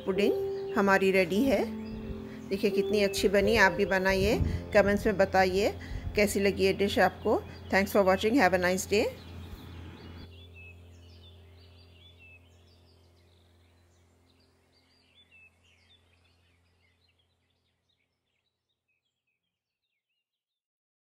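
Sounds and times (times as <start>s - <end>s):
low steady hum: 0.0s - 17.4s
small birds chirping: 0.0s - 20.3s.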